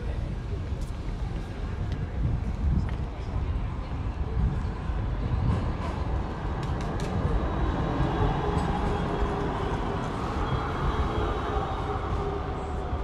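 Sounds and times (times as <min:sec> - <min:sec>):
street noise: 0:00.0 - 0:13.0
tram rumbling past: 0:00.0 - 0:13.0.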